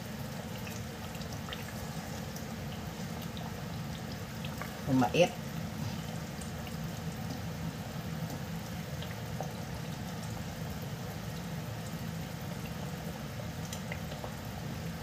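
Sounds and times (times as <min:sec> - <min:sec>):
sauce bubbling in hot oil: 0:00.0 - 0:15.0.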